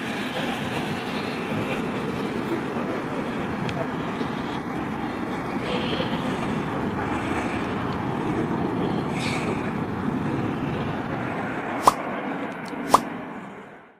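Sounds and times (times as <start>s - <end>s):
jet engines roaring: 0.0s - 13.6s.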